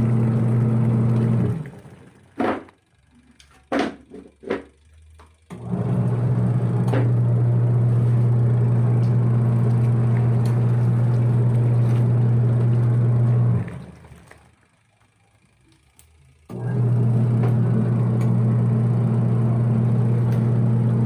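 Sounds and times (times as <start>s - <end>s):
water and clothes churning: 0.0s - 2.7s, 5.6s - 16.0s, 16.6s - 21.0s
washing machine motor humming: 0.0s - 21.0s.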